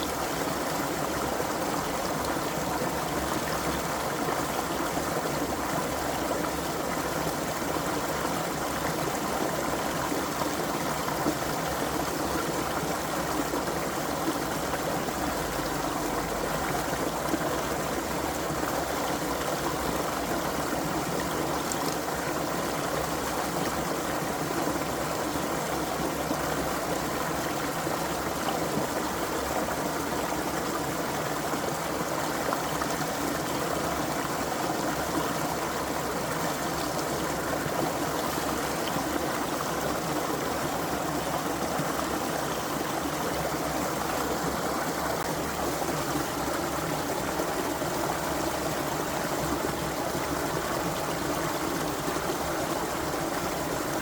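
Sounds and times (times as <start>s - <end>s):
creek flowing over stones: 0.0s - 54.0s.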